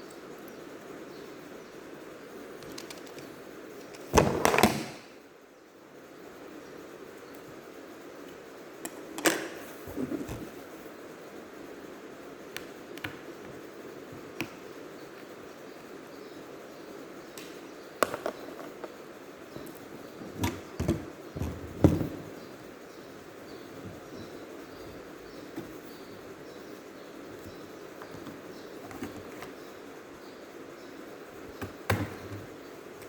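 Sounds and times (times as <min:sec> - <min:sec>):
steady low hiss: 0:00.0 - 0:33.0.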